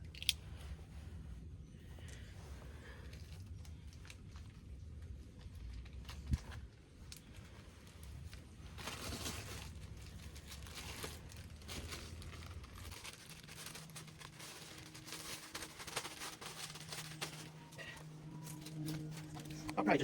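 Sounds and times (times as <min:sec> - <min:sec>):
low steady hum: 0:00.0 - 0:20.0
rustling: 0:00.4 - 0:20.0.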